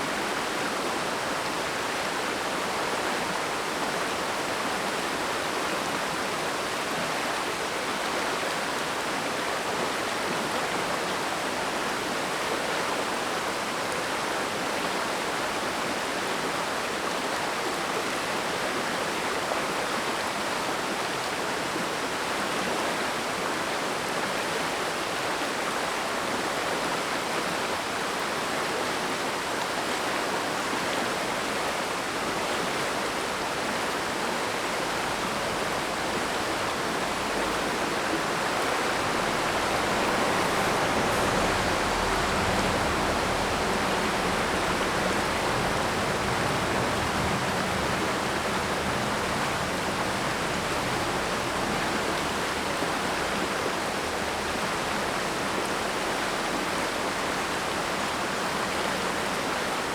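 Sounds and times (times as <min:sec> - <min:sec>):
mountain stream rushing over rocks: 0:00.0 - 0:59.9.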